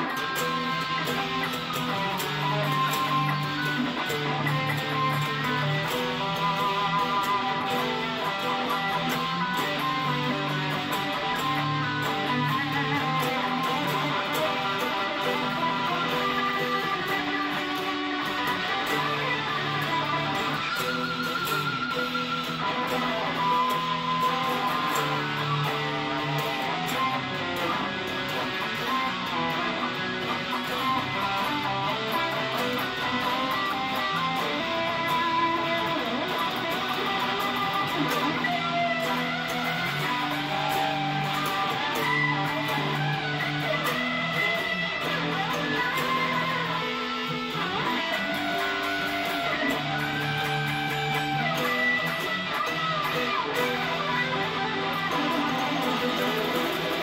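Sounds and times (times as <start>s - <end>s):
electric guitar low riffs: 0.0s - 57.0s
electric guitar melody: 0.0s - 57.0s.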